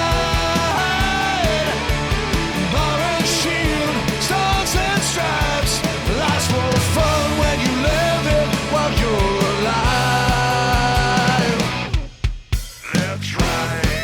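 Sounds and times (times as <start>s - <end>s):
rock song: 0.0s - 14.0s
steady drum beat: 0.0s - 14.0s.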